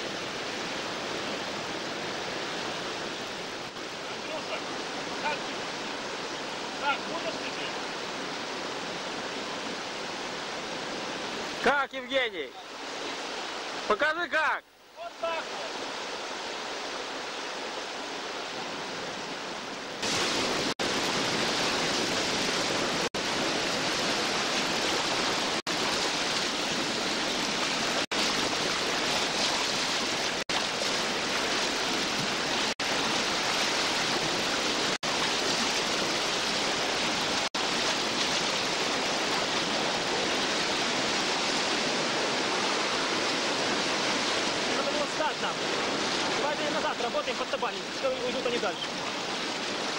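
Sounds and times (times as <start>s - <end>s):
whitewater rapids rushing: 0.0s - 49.9s.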